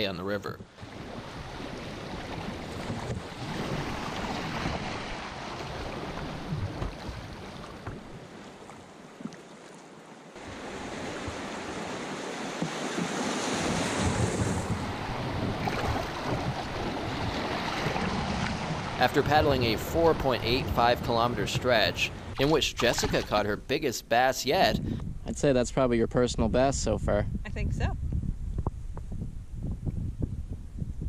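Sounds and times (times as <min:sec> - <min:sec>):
wind buffeting microphone: 0:00.6 - 0:08.5, 0:10.4 - 0:23.8, 0:24.5 - 0:31.0.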